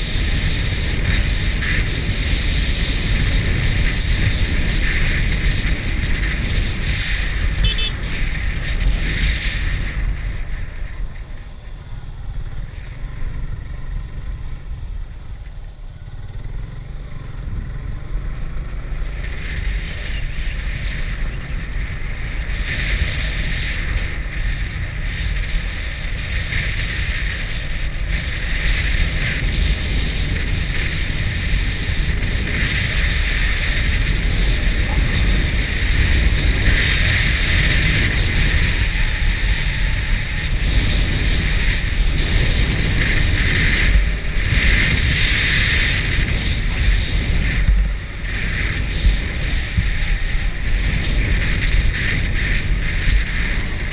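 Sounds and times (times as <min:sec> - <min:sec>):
motorcycle engine rumbling: 0:00.0 - 0:53.9
wind noise on microphone: 0:00.0 - 0:53.9.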